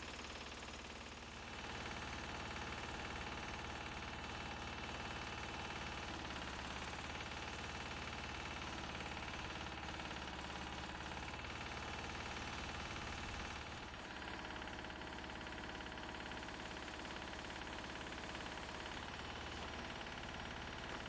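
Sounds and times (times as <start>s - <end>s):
machine engine running steadily: 0.0s - 21.0s.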